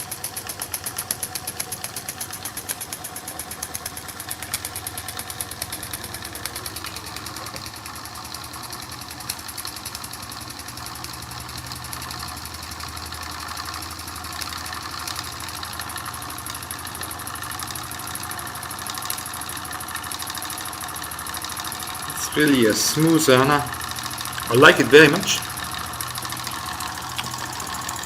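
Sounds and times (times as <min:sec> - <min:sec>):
toy steam engine running: 0:00.0 - 0:28.0.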